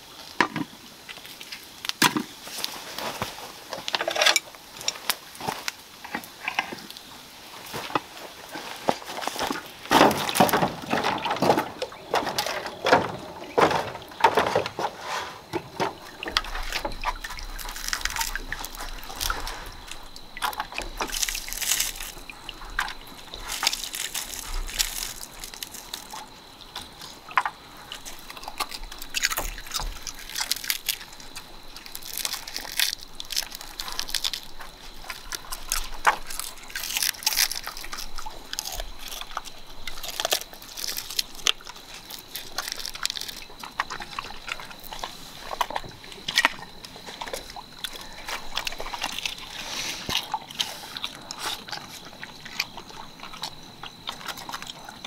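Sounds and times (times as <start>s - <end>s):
water sloshing and dripping: 0.0s - 55.0s.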